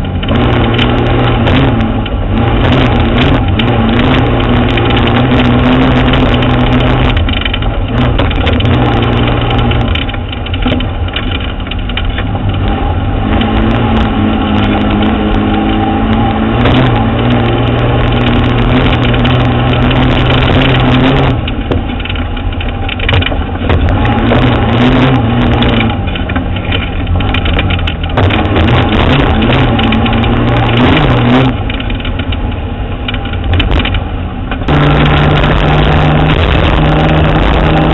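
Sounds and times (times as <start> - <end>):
truck engine running under load: 0.0 - 37.9
tyres on dirt track: 0.0 - 37.9.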